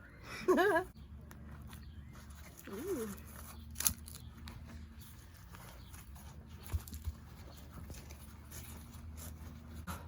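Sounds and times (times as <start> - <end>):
scraping and rustling of earth: 1.6 - 10.0.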